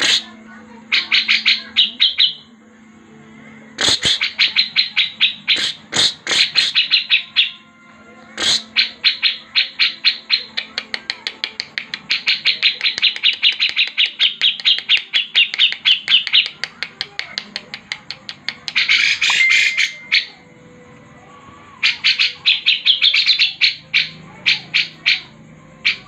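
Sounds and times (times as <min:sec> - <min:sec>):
songbird chirping: 0:00.0 - 0:26.0.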